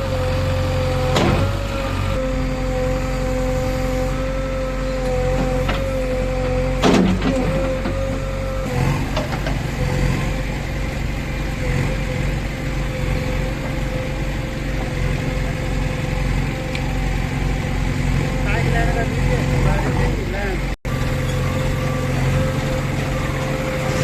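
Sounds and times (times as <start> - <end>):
constant whine: 0.0 - 24.0
diesel engine running: 0.0 - 24.0.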